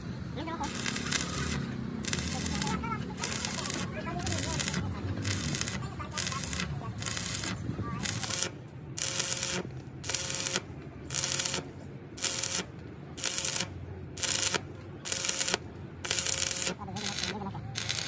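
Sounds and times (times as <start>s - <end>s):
welding arc crackling: 0.6s - 18.0s.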